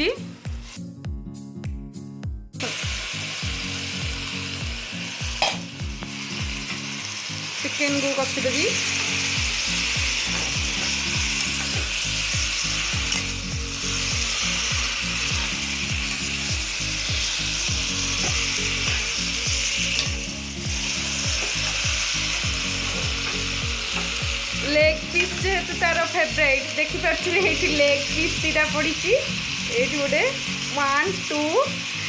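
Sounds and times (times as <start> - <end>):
chicken sizzling in a pan: 2.6 - 32.0.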